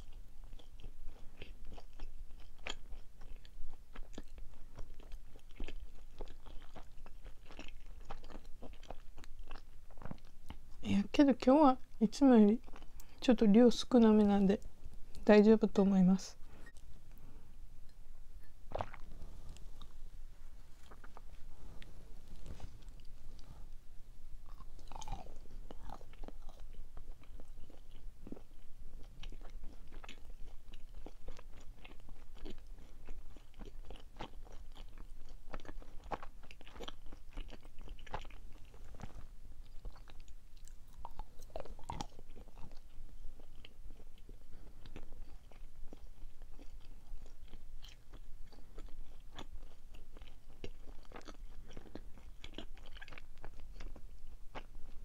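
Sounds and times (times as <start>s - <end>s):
person chewing sweets: 0.0s - 55.0s.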